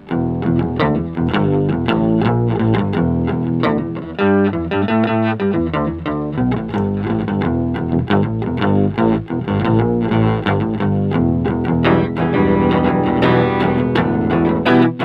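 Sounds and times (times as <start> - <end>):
electric guitar with sub-octave: 0.0 - 15.0.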